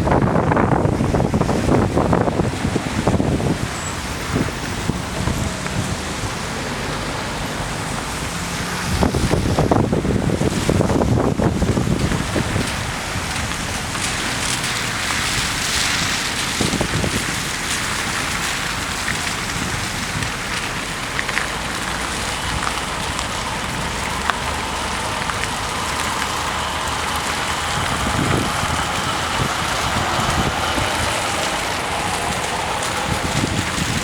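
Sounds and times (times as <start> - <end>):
road traffic hiss: 0.0 - 34.0
vehicle passing: 0.1 - 19.7, 20.6 - 34.0.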